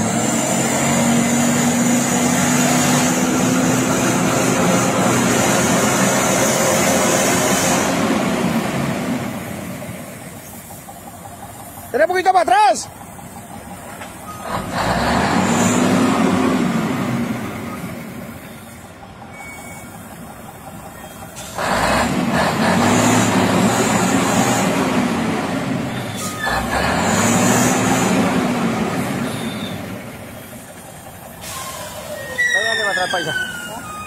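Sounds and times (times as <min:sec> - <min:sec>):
truck diesel engine revving: 0:00.0 - 0:34.0.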